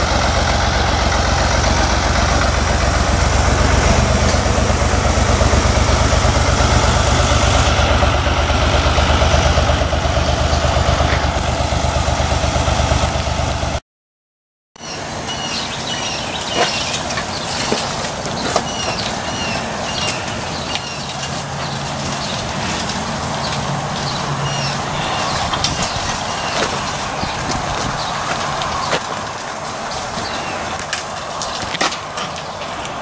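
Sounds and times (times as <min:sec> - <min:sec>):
tractor engine throbbing: 0:00.0 - 0:13.8, 0:14.8 - 0:33.0
birds chirping: 0:01.6 - 0:11.5, 0:14.8 - 0:33.0.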